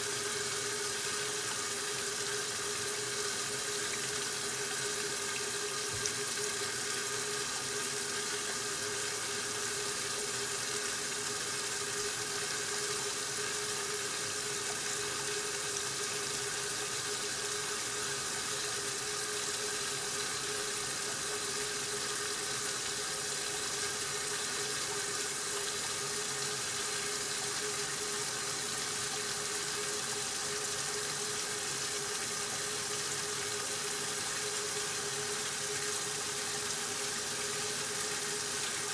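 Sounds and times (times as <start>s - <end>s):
water rushing in washing machine: 0.0s - 38.9s.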